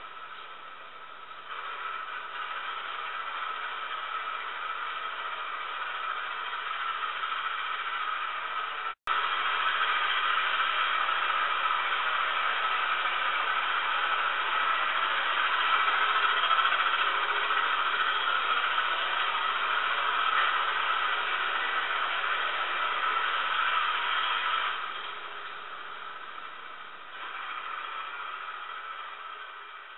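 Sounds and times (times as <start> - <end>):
model locomotive engine sound: 0.0 - 29.9
model train motor and wheels: 0.0 - 29.9.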